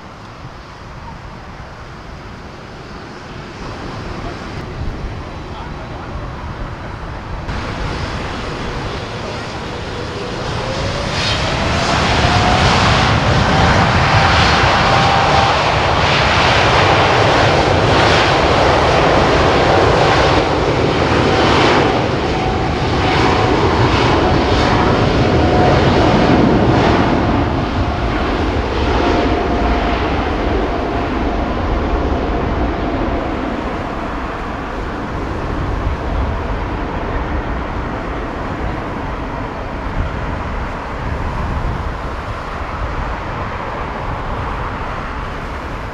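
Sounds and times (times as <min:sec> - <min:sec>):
jet engine roar with whine: 0:00.0 - 0:45.9.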